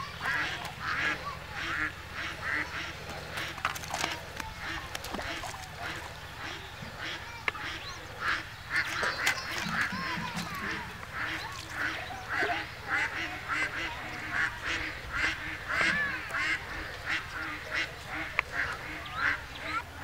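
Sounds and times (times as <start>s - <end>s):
ducks quacking: 0.0s - 20.0s.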